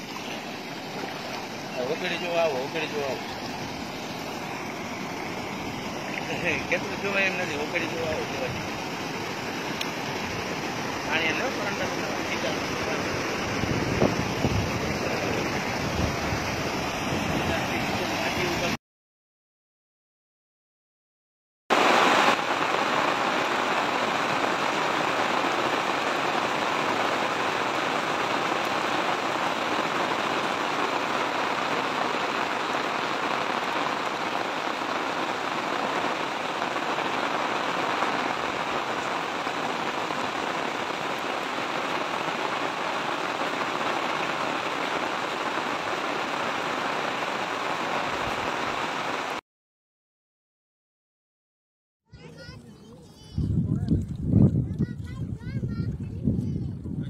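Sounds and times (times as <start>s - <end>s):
heavy rain pouring: 0.0s - 18.8s, 21.7s - 49.4s.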